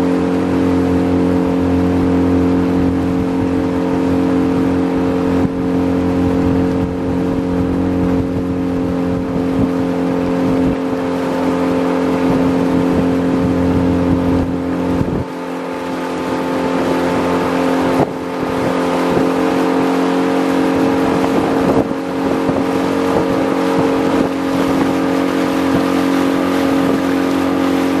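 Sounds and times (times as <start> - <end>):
small boat motor running: 0.0 - 28.0.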